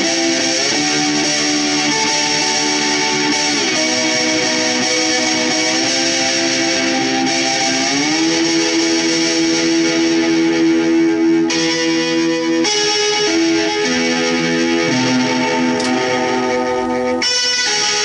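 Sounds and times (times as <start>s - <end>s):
lap steel guitar sliding chords: 0.0s - 18.0s.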